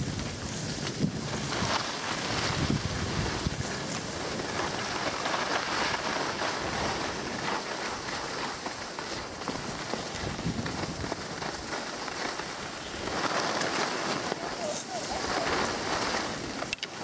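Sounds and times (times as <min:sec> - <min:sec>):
skis scraping over snow: 0:00.0 - 0:17.0
wind buffeting microphone: 0:00.0 - 0:17.0.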